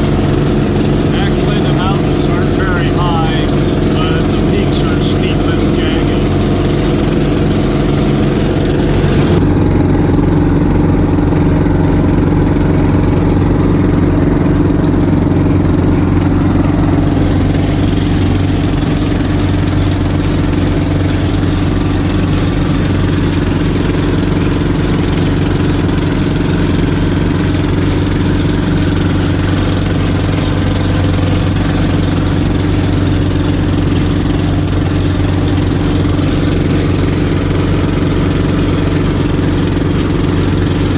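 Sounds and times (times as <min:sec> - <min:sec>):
boat engine running noisily: 0:00.0 - 0:40.9.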